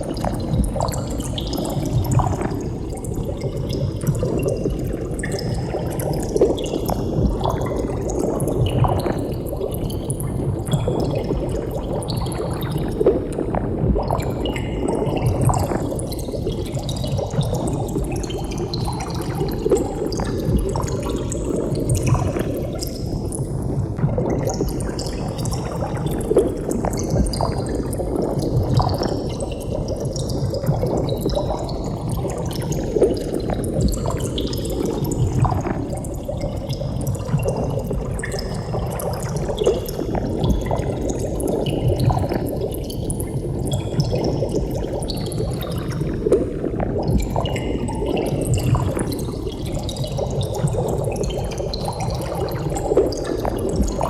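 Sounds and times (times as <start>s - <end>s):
underwater bubbling: 0.0s - 54.0s.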